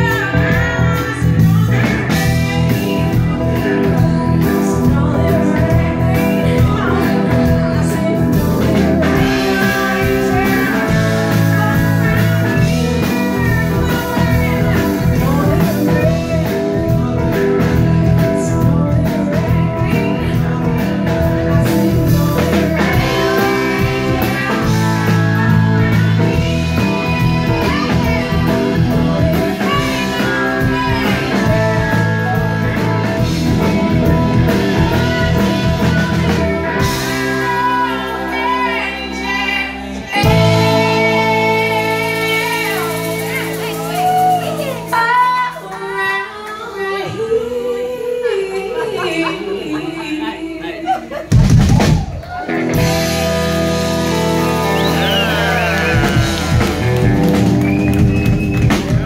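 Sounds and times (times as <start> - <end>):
woman singing: 0.0 - 52.0
live blues-rock band: 0.0 - 59.0.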